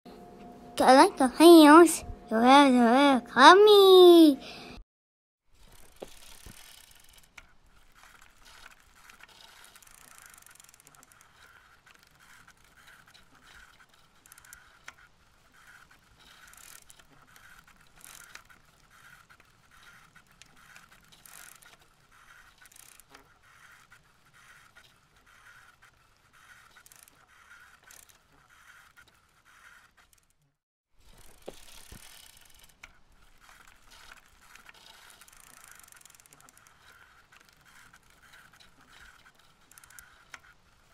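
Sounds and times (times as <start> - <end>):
bicycle rattling on concrete: 5.6 - 30.4, 31.0 - 40.9.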